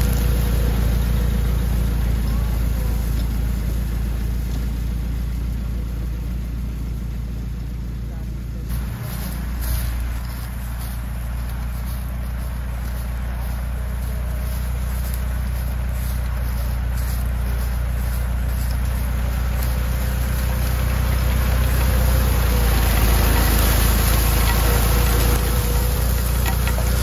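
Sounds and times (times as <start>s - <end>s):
tractor engine running under load: 0.0s - 27.0s.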